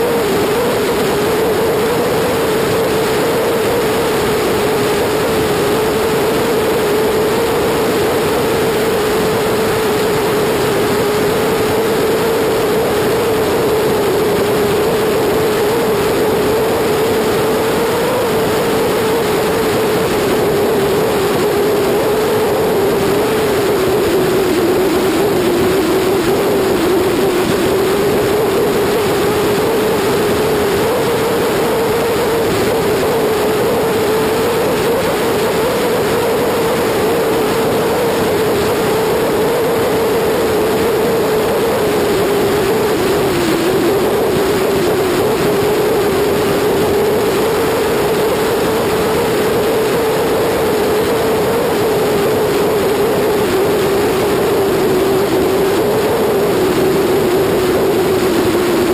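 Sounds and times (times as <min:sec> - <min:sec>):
wind and road noise: 0:00.0 - 0:58.9.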